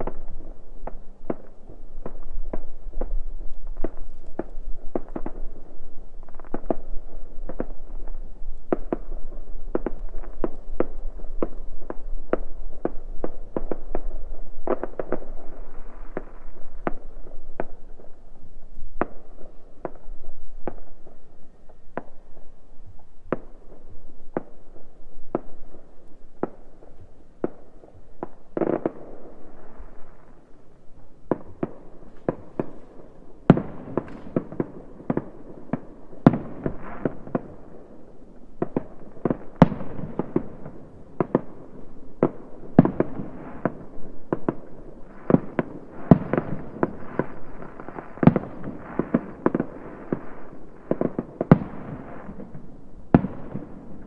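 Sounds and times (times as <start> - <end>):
fireworks banging: 0.0 - 18.3, 25.3 - 54.0
firecrackers crackling: 0.0 - 54.0.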